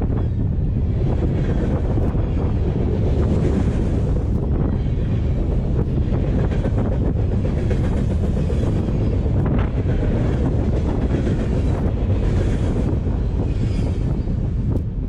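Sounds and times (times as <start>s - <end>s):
train wheels rumbling on rail: 0.0s - 15.0s
wind buffeting microphone: 0.0s - 15.0s.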